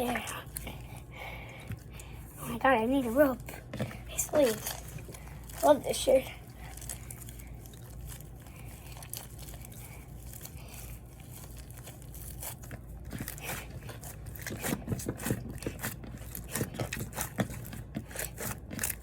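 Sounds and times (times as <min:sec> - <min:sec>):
slime kneaded by hand: 0:00.0 - 0:19.0.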